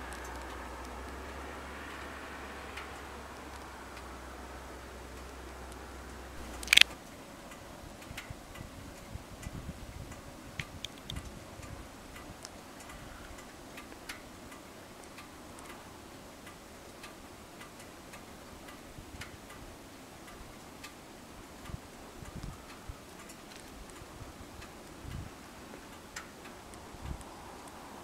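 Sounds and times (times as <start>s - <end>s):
low steady hiss: 0.0s - 28.0s
faint ticking and clicking: 5.0s - 28.0s.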